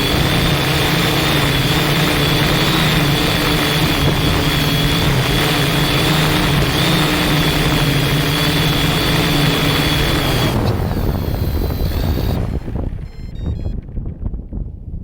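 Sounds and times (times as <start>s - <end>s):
drone propellers whining: 0.0s - 13.9s
strong wind: 0.0s - 15.0s.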